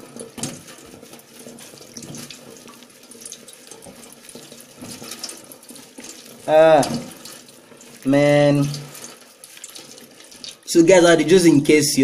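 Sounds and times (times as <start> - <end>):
hands scrubbing wet hair: 0.0 - 11.4
tap water running into sink: 0.0 - 11.6.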